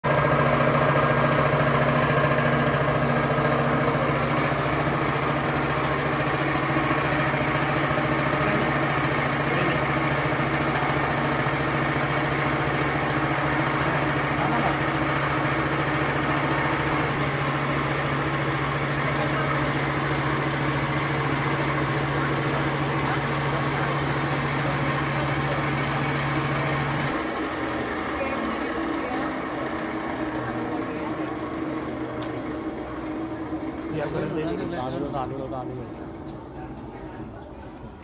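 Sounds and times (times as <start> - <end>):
electric motor humming: 0.1 - 35.4.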